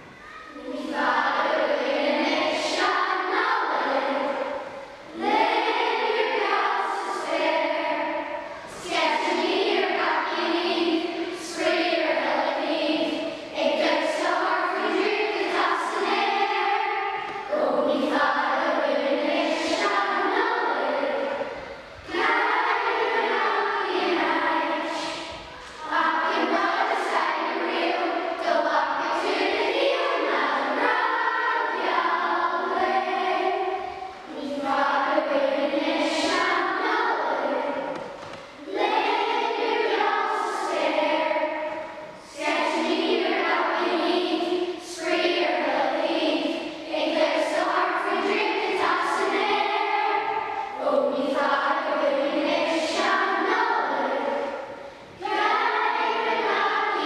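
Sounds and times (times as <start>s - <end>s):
children singing in choir: 0.0s - 57.0s.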